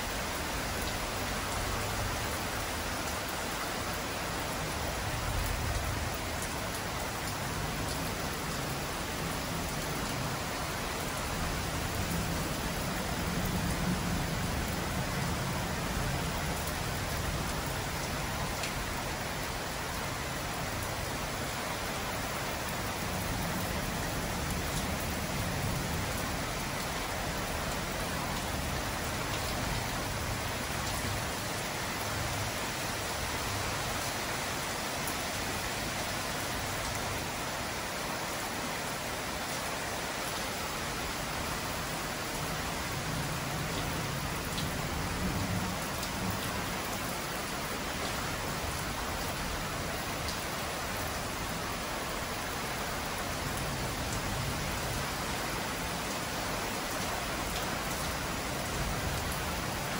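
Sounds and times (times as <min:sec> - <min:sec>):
heavy rain on tiles and lawn: 0:00.0 - 0:59.9.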